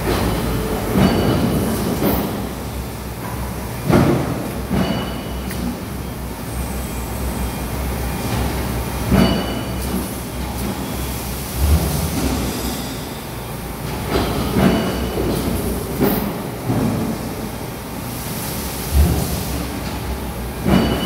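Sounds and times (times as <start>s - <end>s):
machinery rumble and hiss: 0.0s - 21.0s.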